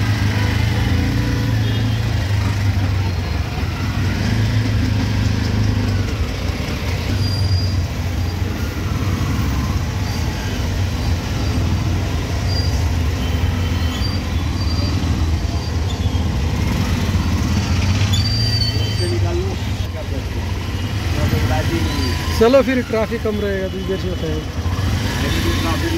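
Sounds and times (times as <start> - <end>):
rickshaw engine droning: 0.0 - 25.9
surrounding traffic: 0.0 - 25.9.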